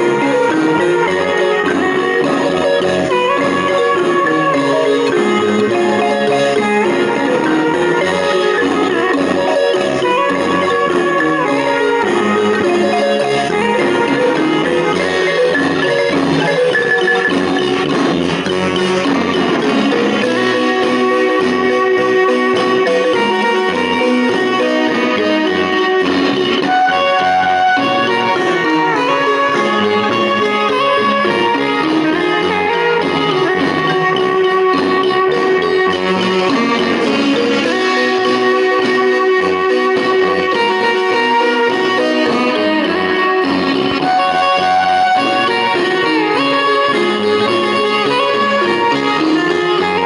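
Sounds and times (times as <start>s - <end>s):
marimba ensemble playing: 0.0s - 50.0s.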